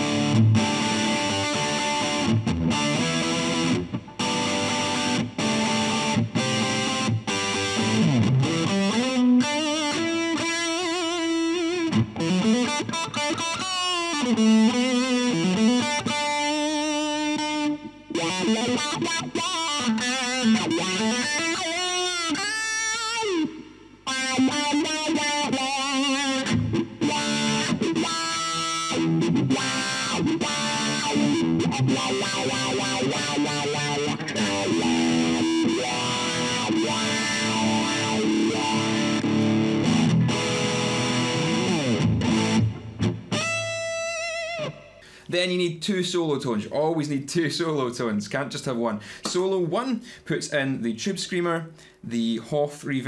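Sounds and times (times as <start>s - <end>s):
distorted electric guitar licks: 0.0s - 45.4s.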